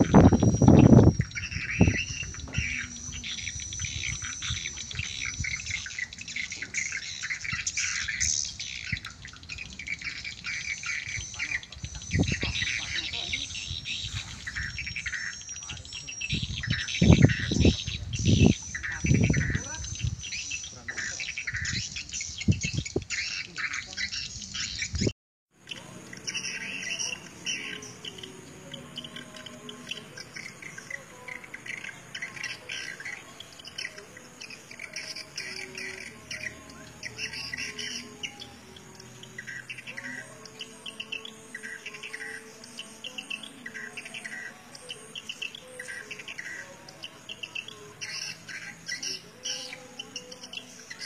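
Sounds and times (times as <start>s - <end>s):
birds chirping and twittering: 0.0s - 51.0s.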